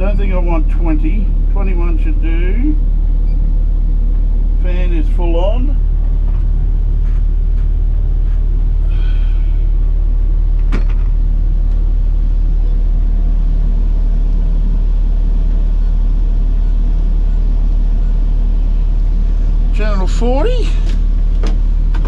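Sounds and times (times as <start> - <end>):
air conditioning fan blowing: 0.0 - 22.0
diesel engine running: 0.0 - 22.0.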